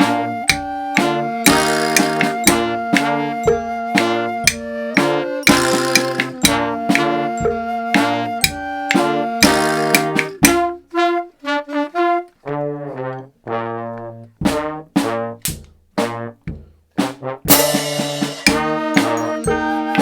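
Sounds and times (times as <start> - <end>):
brass band detached notes: 0.0 - 20.0.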